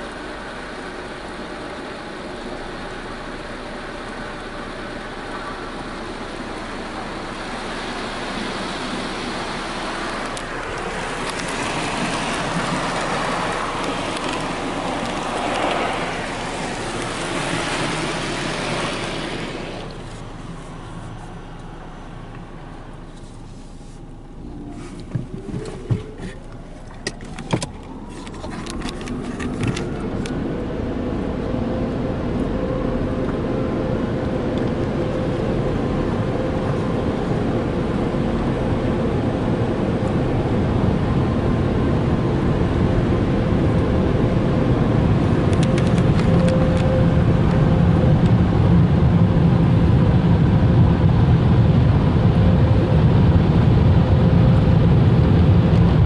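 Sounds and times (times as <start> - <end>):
air dryer blowers whining: 0.0 - 56.0.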